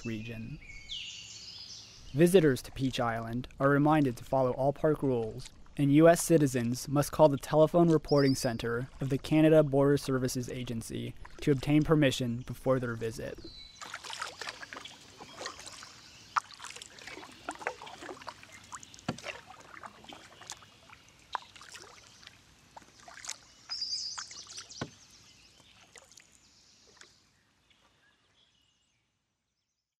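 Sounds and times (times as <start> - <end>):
kayak paddle splashing water: 2.1 - 28.0.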